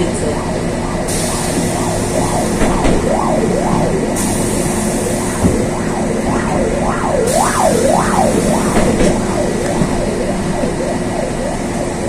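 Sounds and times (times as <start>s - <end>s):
bus running gear hum: 0.0s - 12.0s
emergency siren wailing: 0.0s - 12.0s.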